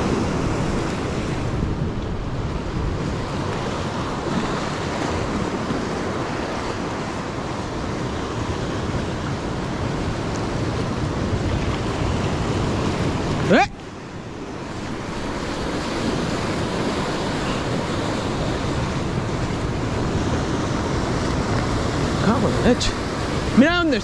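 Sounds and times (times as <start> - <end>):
surf washing among rocks: 0.0 - 24.0
wind buffeting microphone: 0.0 - 24.0.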